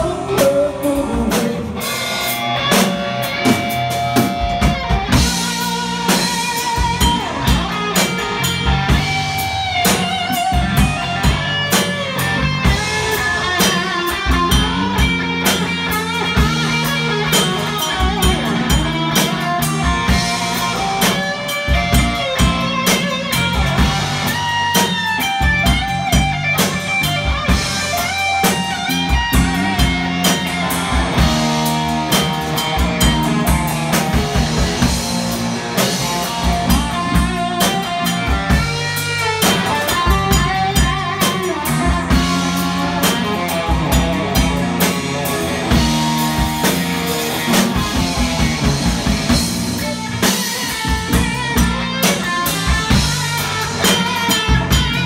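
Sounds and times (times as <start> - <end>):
drum kit beat: 0.0 - 55.0
electric guitar solo: 0.0 - 55.0.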